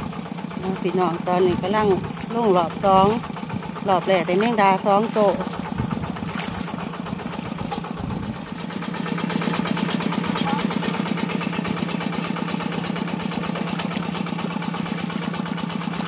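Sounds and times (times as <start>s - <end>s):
small engine chugging: 0.0s - 16.0s.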